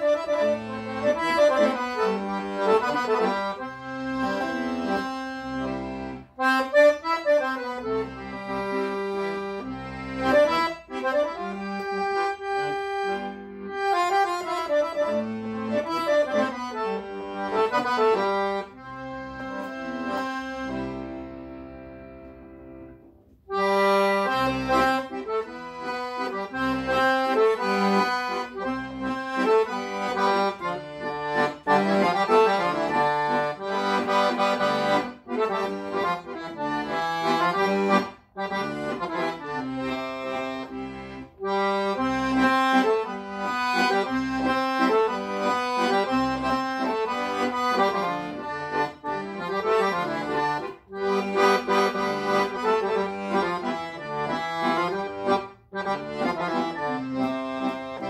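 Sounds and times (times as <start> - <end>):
piano accordion melody: 0.0 - 58.0.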